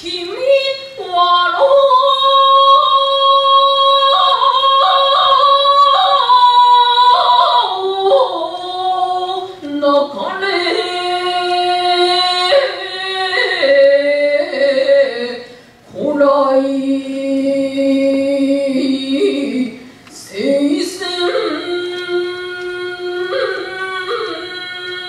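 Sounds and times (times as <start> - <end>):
woman chanting in a high voice: 0.0 - 25.0.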